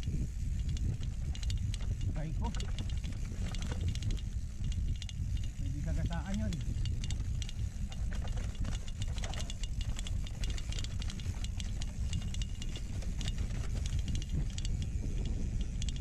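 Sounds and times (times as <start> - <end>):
bike chain rattling: 0.0 - 16.0
bike tyres crunching over dirt: 0.0 - 16.0
wind rumble on microphone: 0.0 - 16.0.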